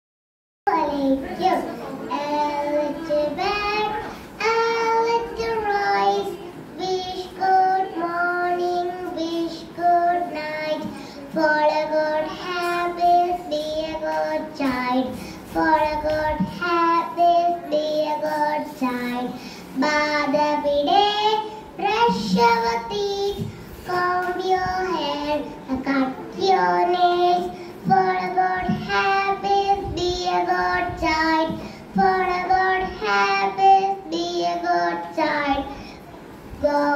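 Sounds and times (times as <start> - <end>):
girl singing: 0.7 - 36.9.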